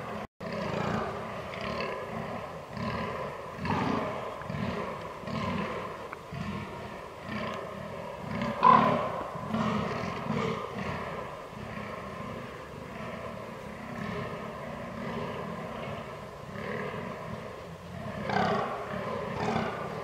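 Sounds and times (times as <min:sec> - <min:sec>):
deer deep belching grunts: 0:00.4 - 0:20.0.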